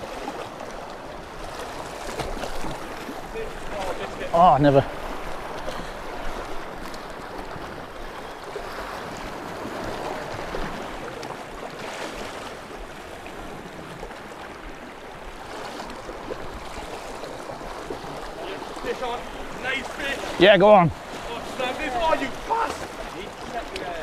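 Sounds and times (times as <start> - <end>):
sea water lapping against rocks: 0.0 - 24.0.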